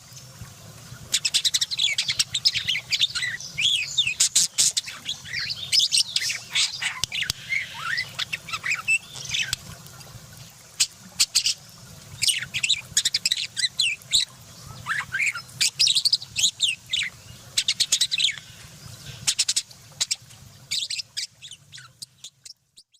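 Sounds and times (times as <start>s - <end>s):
birds squawking and chirping: 1.0s - 22.9s.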